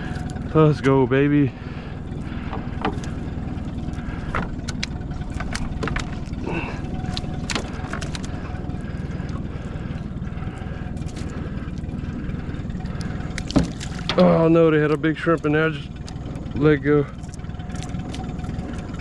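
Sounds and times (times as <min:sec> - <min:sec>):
outboard motor idling: 0:00.0 - 0:19.0.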